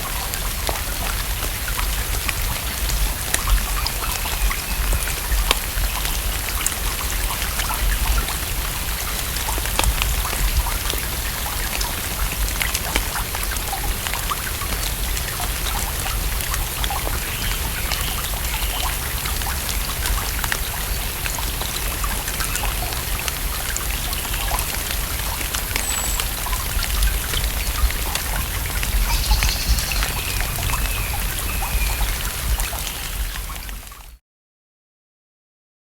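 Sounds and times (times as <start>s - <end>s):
rain falling on water: 0.0s - 34.2s.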